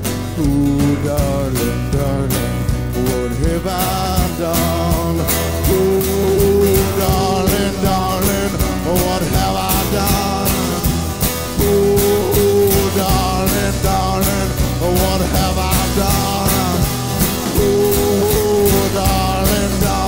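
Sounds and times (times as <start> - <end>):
live country-rock band: 0.0 - 20.0.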